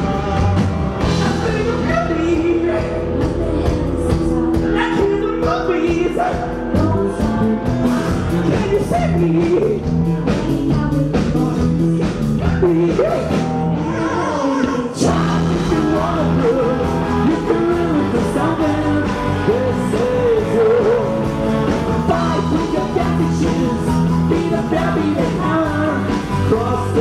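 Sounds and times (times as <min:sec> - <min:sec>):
bass guitar: 0:00.0 - 0:27.0
man singing: 0:00.0 - 0:27.0.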